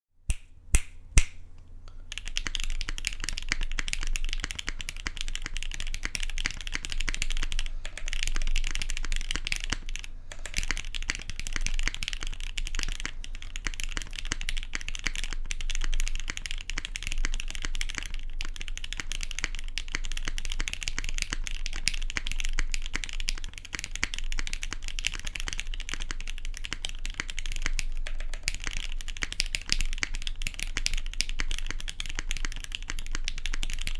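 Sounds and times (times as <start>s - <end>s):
mechanical keyboard typing: 2.0s - 33.9s.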